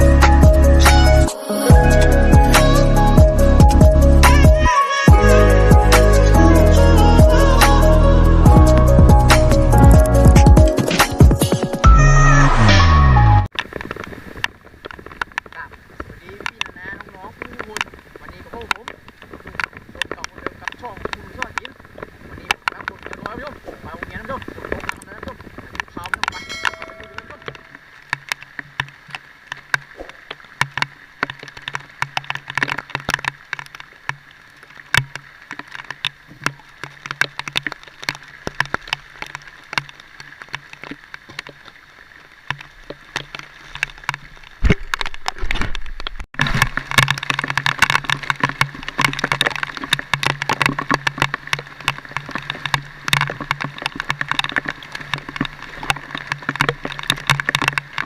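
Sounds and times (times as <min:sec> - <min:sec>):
raindrops tapping: 0:00.0 - 0:12.2, 0:13.4 - 0:58.0.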